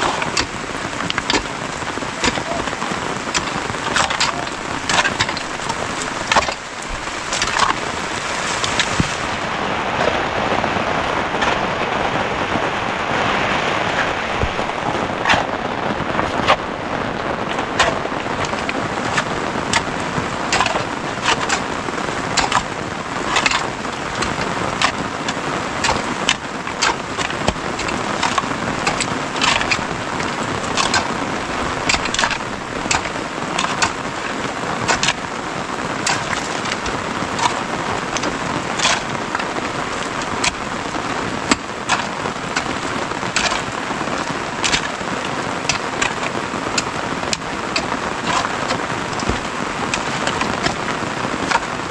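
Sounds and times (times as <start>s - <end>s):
raindrop ticks: 0.0s - 51.9s
steady rain: 0.0s - 51.9s.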